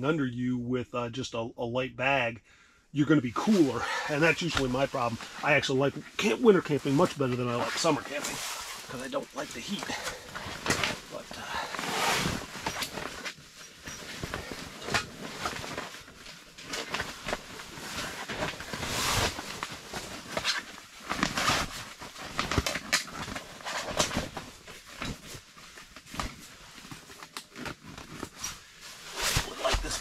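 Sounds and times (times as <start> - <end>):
canvas fabric rustling and scraping: 3.4 - 30.0.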